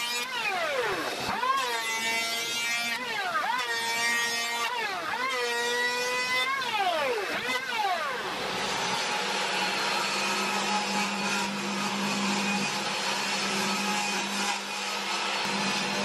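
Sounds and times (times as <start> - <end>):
electric hand planer on wood: 0.0 - 16.0.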